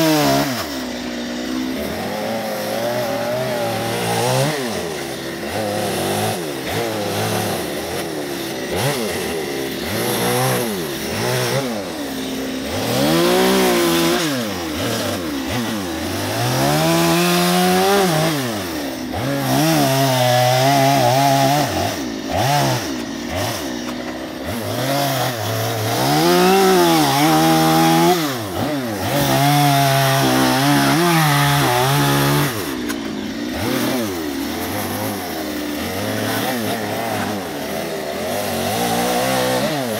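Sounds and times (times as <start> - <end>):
chainsaw revving and cutting log: 0.0 - 39.9.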